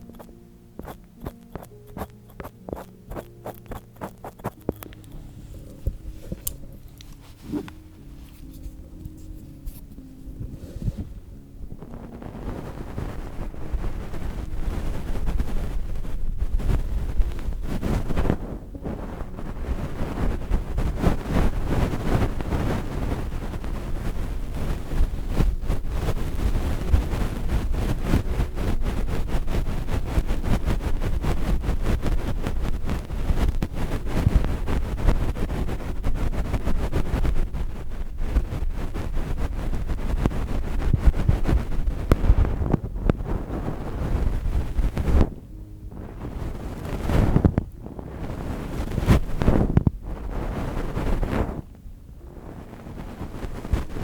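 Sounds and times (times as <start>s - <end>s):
scratching scrapes on microphone: 0.0s - 45.5s, 46.1s - 51.7s, 52.5s - 54.0s
heavy low rumble: 1.4s - 54.0s.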